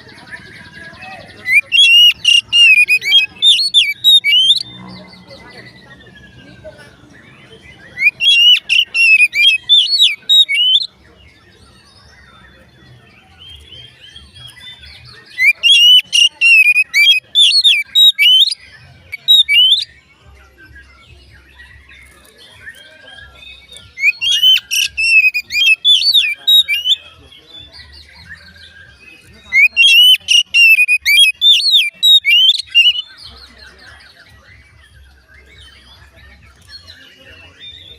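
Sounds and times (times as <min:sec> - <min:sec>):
songbird whistling rapid phrases: 0:00.4 - 0:04.9, 0:07.0 - 0:11.0, 0:13.5 - 0:20.0, 0:20.6 - 0:37.9.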